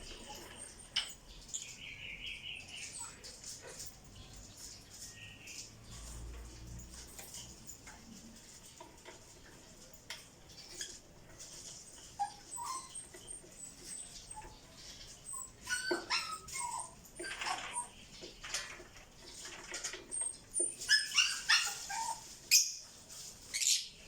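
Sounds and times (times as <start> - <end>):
lovebirds chirping and squeaking: 0.0 - 24.0.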